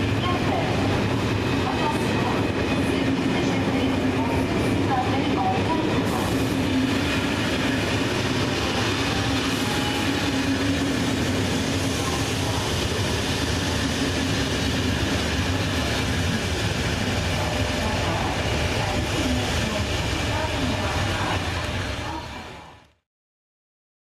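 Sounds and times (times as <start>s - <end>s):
train wheels on rails: 0.0s - 22.8s.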